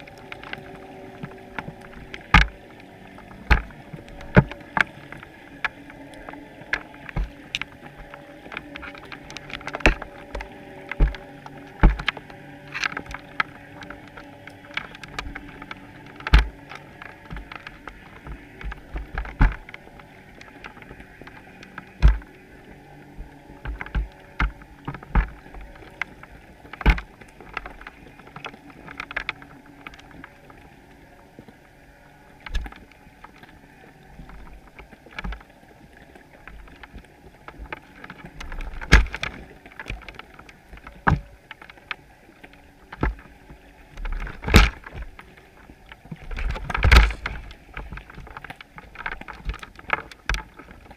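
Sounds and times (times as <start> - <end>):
faint underwater rumble: 0.0 - 50.9.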